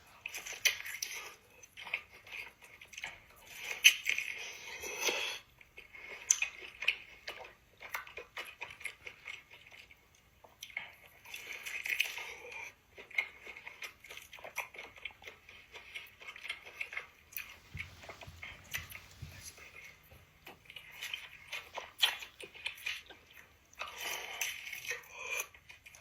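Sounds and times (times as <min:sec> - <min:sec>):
person chewing crunchy food: 0:00.0 - 0:26.0.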